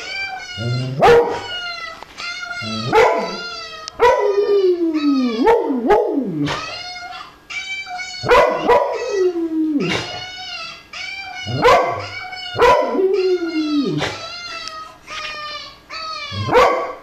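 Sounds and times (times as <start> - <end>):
dog howling: 0.0 - 14.7, 15.9 - 17.0
dog yelping and whining: 0.0 - 17.0.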